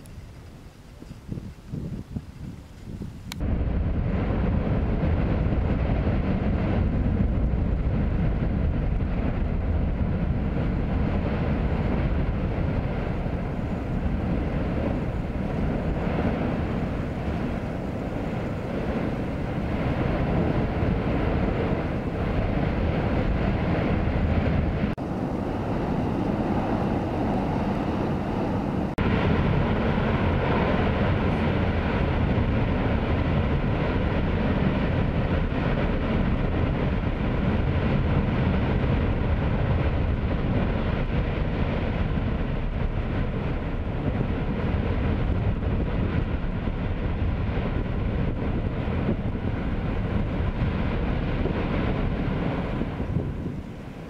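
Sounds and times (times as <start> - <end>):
volcanic vent rushing: 0.0 - 54.0.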